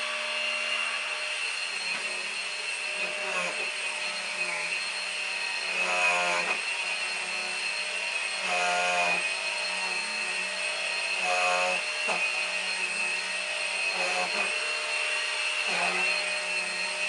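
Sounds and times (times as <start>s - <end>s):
vacuum cleaner high whine: 0.0s - 17.0s.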